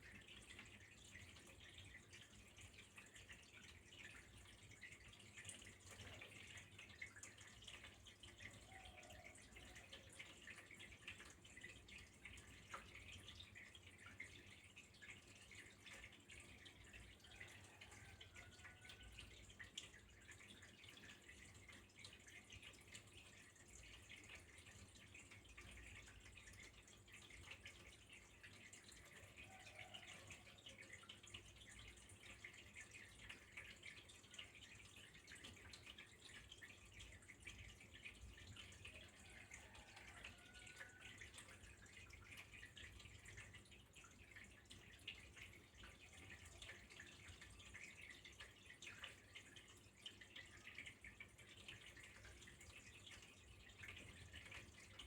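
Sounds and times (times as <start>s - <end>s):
small water drips: 0.0s - 55.0s
trickle of flowing water: 0.0s - 55.0s.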